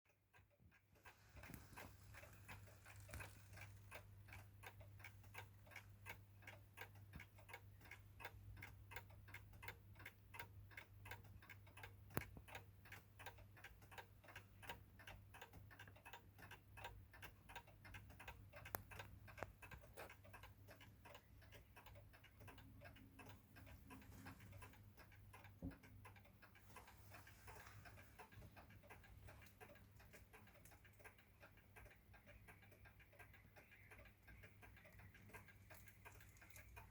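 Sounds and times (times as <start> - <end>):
clock ticking: 0.1 - 36.9.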